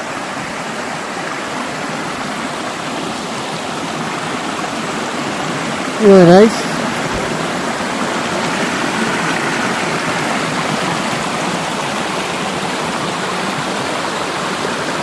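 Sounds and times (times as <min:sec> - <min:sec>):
river rushing over waterfall: 0:00.0 - 0:15.0.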